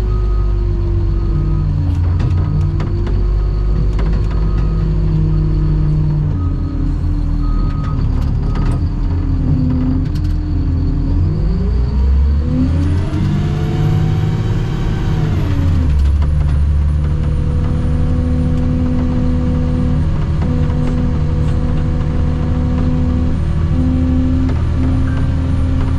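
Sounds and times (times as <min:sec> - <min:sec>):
diesel engine revving: 0:00.0 - 0:25.9.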